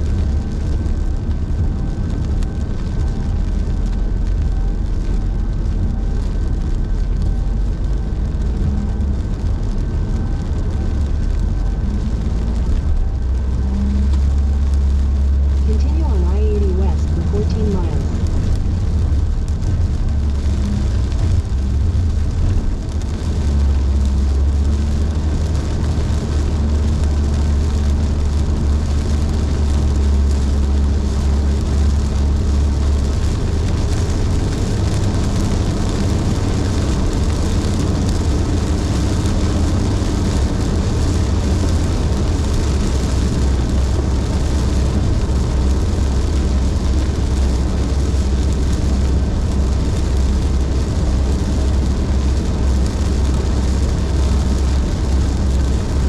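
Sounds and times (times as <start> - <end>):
engine and road drone: 0.0 - 56.0
tyres hissing on wet road: 0.0 - 56.0.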